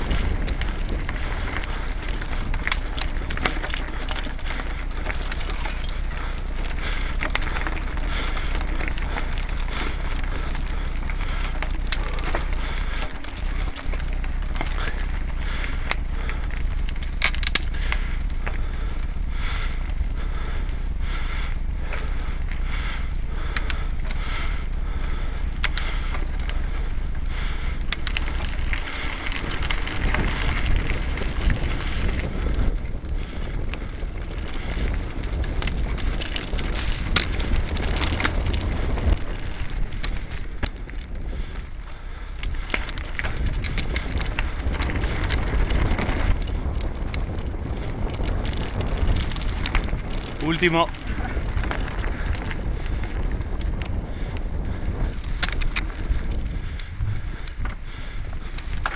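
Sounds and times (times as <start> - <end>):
bike rattling and clicking: 0.0 - 58.9
tyres rolling over dirt: 0.0 - 58.9.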